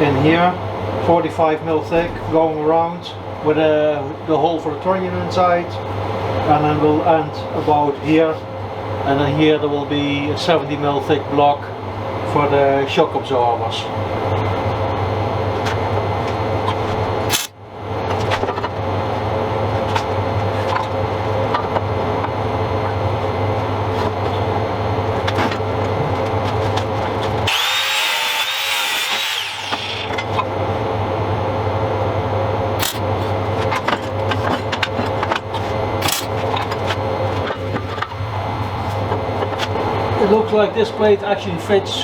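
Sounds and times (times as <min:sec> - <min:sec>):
mechanical whir with low hum: 0:00.0 - 0:42.0.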